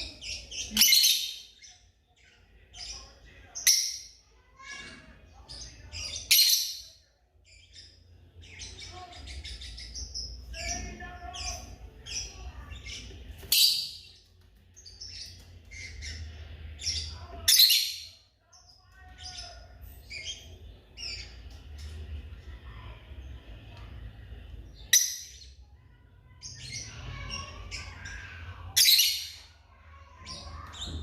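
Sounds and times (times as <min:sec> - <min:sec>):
lovebirds chirping and squawking: 0:00.0 - 0:31.0.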